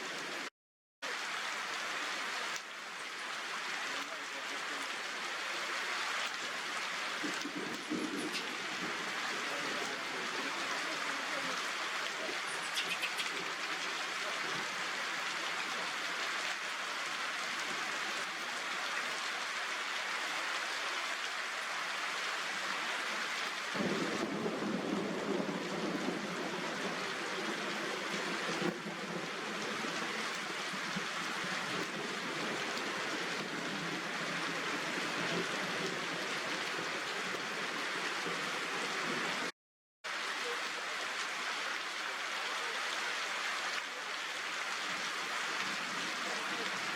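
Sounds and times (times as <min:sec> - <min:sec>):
heavy rain hissing: 0:01.1 - 0:39.5, 0:40.1 - 0:46.9.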